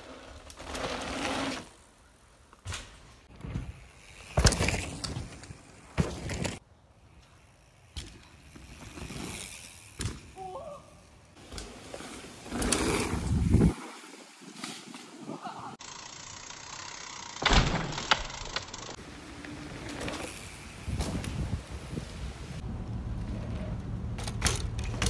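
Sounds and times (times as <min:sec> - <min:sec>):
mountain bike tyre noise: 0:00.0 - 0:25.0.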